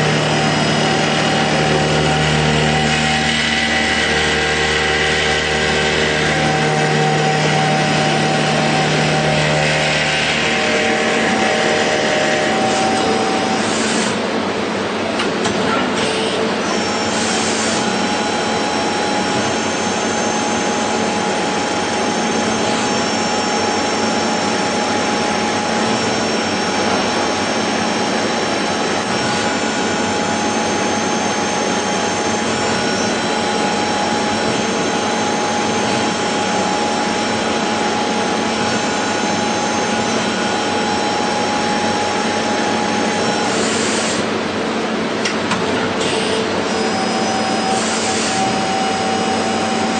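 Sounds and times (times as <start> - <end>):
steady whining tones: 0.0 - 15.2, 16.2 - 49.9
machine running: 0.0 - 49.9.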